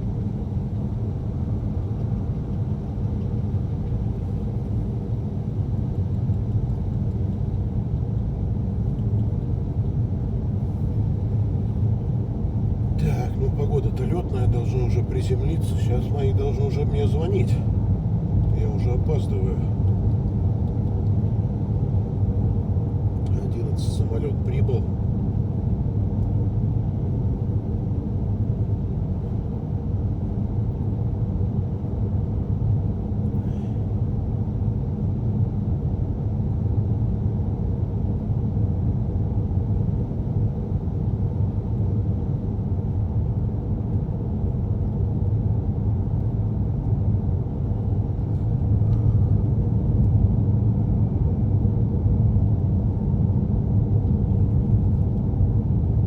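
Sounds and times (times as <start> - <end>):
car cabin road and engine rumble: 0.0 - 56.0.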